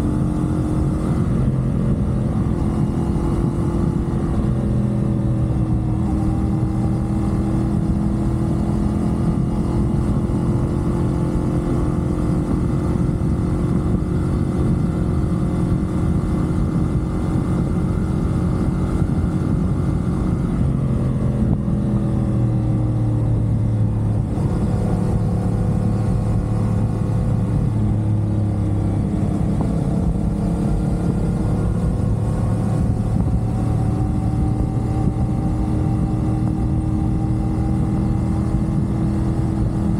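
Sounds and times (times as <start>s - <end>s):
motorcycle engine running: 0.0s - 39.9s
road rush: 0.0s - 39.9s
wind: 0.0s - 39.9s.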